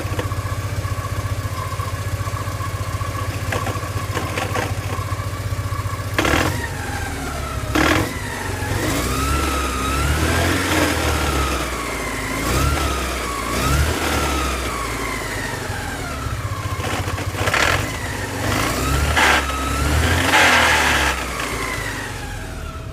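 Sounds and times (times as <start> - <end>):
car engine running: 0.0 - 22.9
grinding whine: 0.0 - 22.9.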